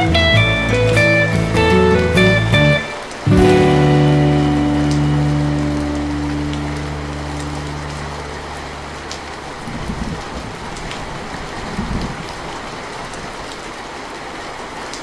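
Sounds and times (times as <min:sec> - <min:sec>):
low rumbles: 0:00.0 - 0:12.1
rain falling: 0:00.0 - 0:15.0.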